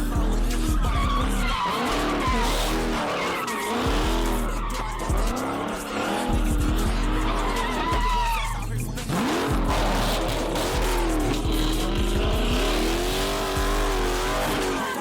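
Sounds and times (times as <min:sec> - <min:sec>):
car engine revving: 0:00.0 - 0:15.0
tires squealing: 0:00.0 - 0:15.0.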